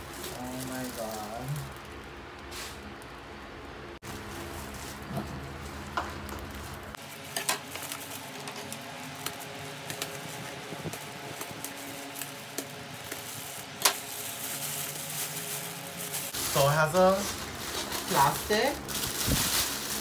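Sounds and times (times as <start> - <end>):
plastic bag crinkling: 0.0 - 3.0, 4.0 - 20.0.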